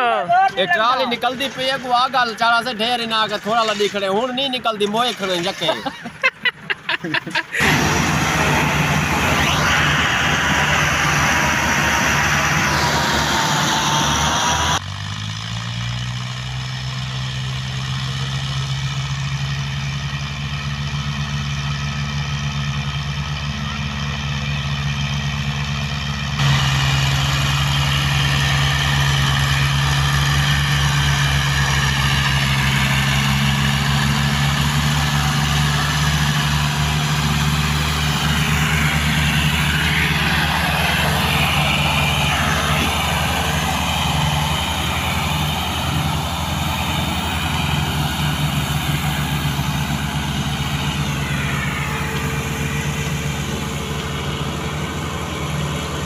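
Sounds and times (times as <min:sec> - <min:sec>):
tractor engines under load: 0:00.0 - 0:56.0.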